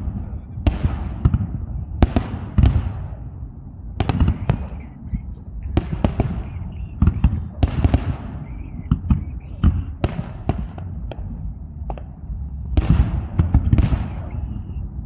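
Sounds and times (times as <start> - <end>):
fireworks bangs and cracks: 0.0 - 3.2, 4.0 - 4.9, 5.6 - 14.6
steady low rumble: 0.0 - 15.0.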